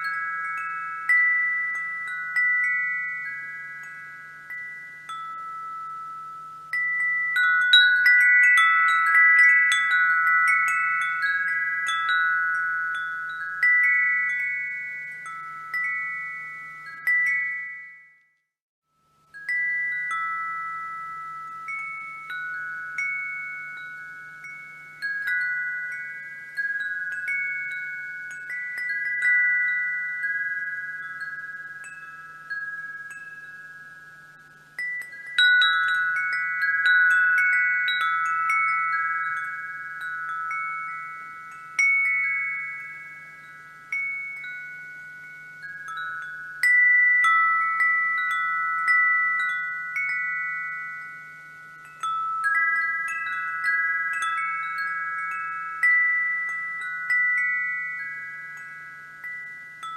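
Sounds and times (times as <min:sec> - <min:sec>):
wind chimes ringing: 0:00.0 - 0:59.9.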